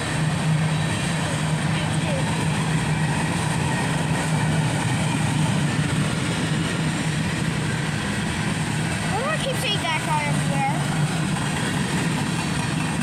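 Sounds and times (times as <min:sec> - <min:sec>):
freight train cars rolling: 0:00.0 - 0:13.0.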